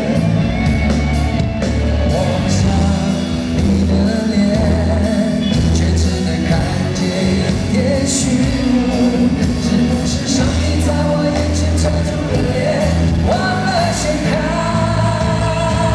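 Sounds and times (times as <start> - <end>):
person singing: 0.0 - 15.9
rock band playing a ballad: 0.0 - 15.9.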